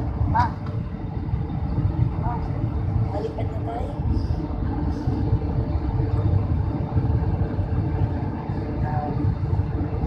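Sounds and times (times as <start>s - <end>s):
airliner cabin engine drone: 0.0s - 10.0s.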